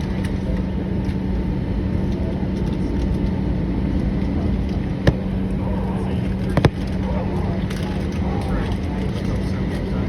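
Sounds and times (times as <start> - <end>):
aircraft cabin engine rumble: 0.0 - 10.0
constant low hum: 0.0 - 10.0.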